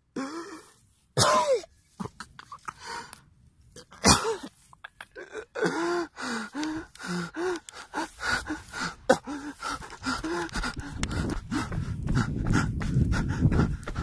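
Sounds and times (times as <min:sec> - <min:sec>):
person gasping and panting: 0:00.0 - 0:03.2, 0:03.8 - 0:14.0.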